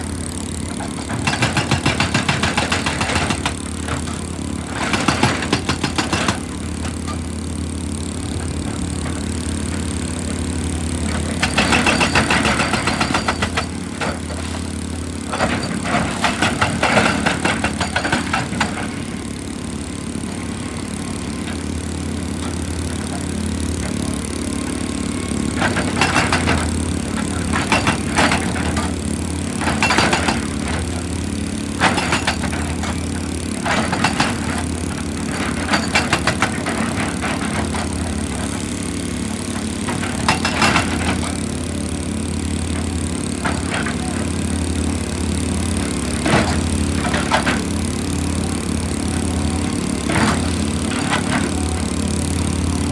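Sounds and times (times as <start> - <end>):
diesel excavator engine running: 0.0 - 52.9.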